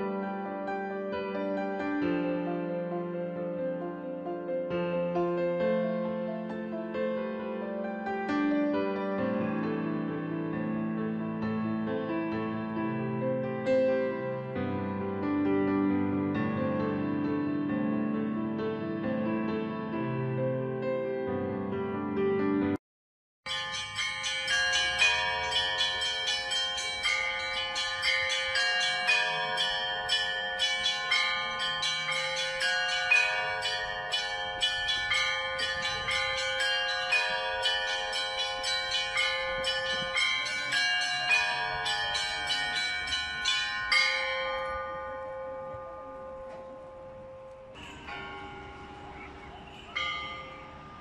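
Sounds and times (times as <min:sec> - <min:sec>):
church bells ringing: 0:00.0 - 0:21.3, 0:23.5 - 0:51.0.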